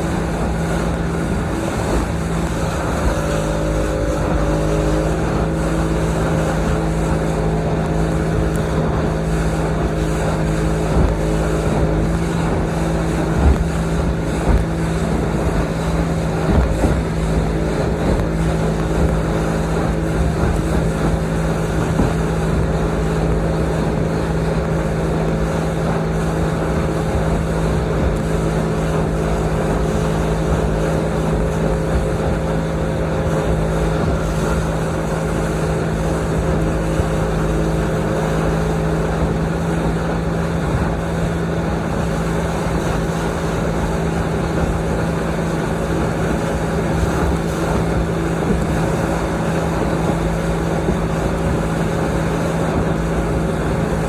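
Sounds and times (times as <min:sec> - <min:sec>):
boat motor humming: 0:00.0 - 0:54.0
wind rumbling on microphone: 0:00.0 - 0:54.0.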